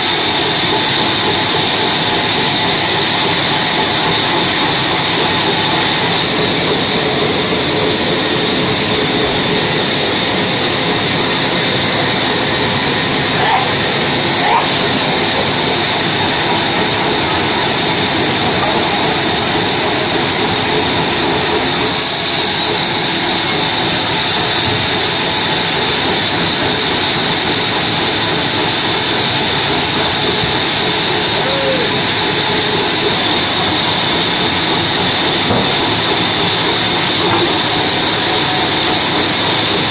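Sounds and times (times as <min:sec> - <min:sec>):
bandsaw running with hiss: 0:00.0 - 0:39.9.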